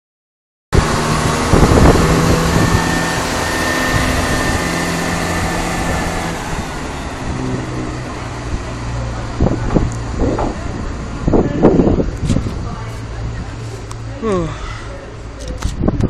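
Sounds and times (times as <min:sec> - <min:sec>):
diesel train engines droning: 0:00.8 - 0:15.8.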